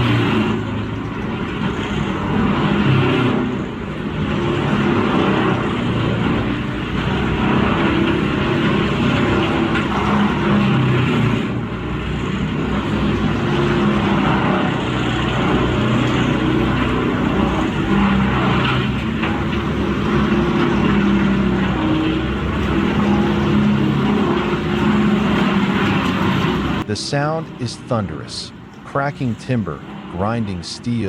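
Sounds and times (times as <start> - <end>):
wood being crushed and shredded: 0.0 - 27.3
loud diesel engine: 0.0 - 31.0.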